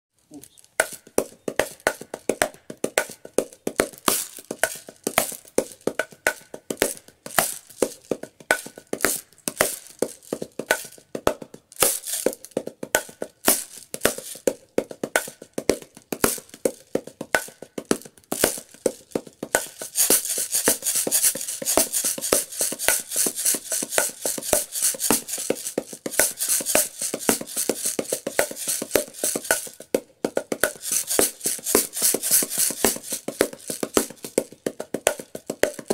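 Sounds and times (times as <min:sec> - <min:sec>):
wooden percussion box hits: 0:00.8 - 0:35.9
rapid shaker strokes hissing: 0:03.8 - 0:11.0, 0:11.7 - 0:16.8, 0:18.0 - 0:35.9.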